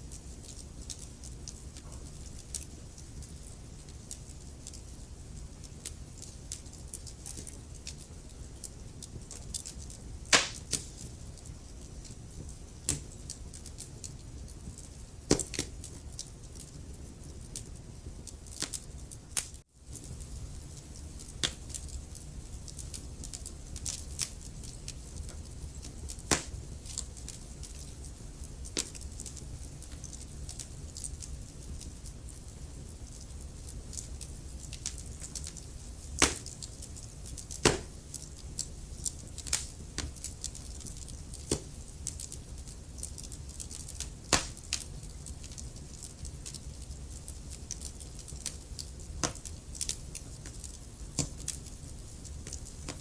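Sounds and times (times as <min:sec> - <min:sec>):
logs crackling and popping: 0:00.0 - 0:53.0
low rumble of flames: 0:00.0 - 0:53.0.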